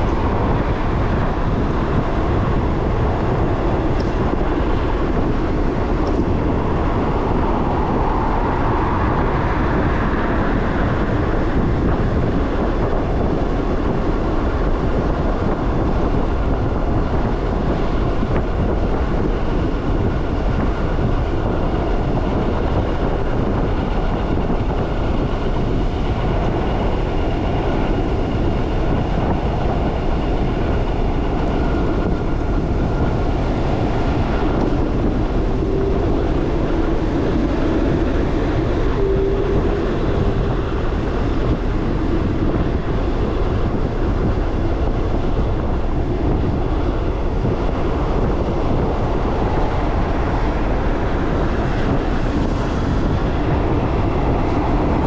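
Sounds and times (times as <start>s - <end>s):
faint steady whine: 0.0s - 55.0s
rolling rumble: 0.0s - 55.0s
wind buffeting microphone: 0.0s - 55.0s.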